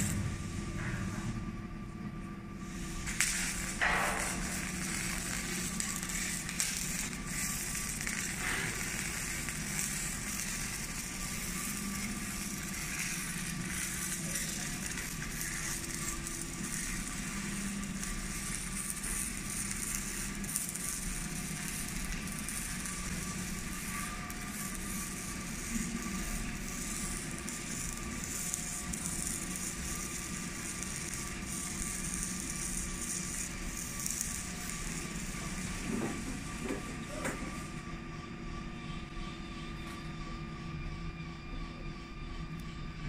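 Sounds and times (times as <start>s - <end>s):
machinery low hum: 0.0s - 43.0s.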